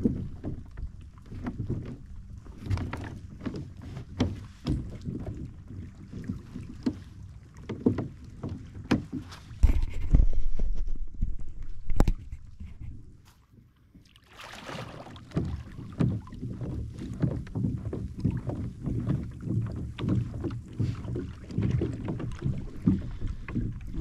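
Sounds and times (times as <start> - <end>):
shallow water sloshing and splashing: 0.0 - 24.0.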